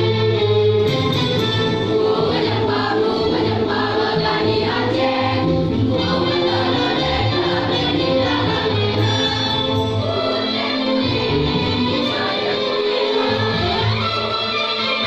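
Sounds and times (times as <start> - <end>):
choir singing held chords: 1.6 - 15.0.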